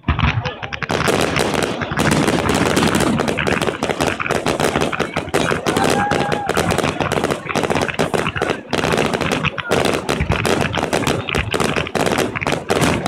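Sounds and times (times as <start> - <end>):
firework shell bursts crackling: 0.0 - 13.0.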